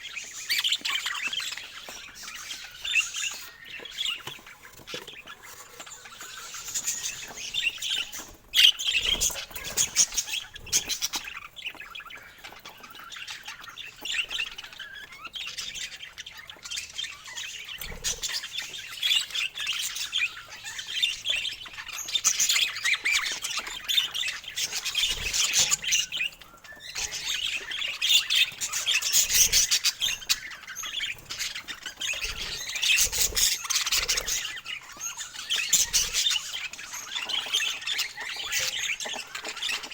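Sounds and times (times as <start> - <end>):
parakeets chirping: 0.0 - 39.9.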